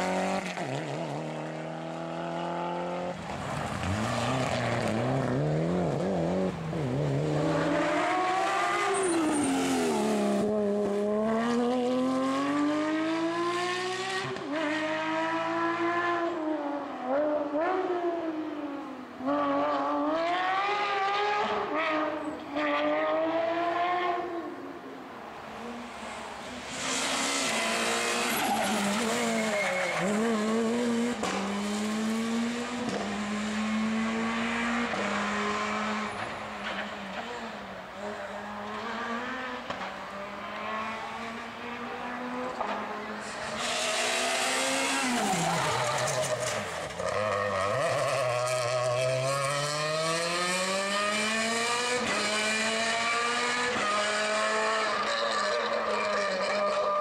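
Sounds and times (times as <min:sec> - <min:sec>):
rally car engine at full power: 0:00.0 - 0:24.3, 0:26.2 - 0:57.0.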